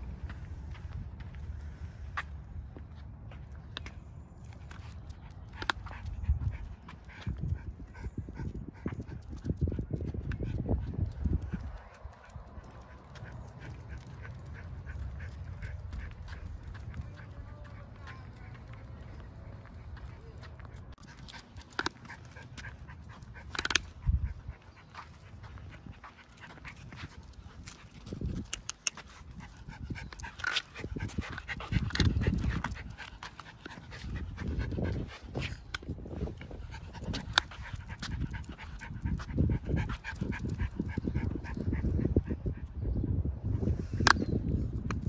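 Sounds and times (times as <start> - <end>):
dog panting: 4.7 - 42.8.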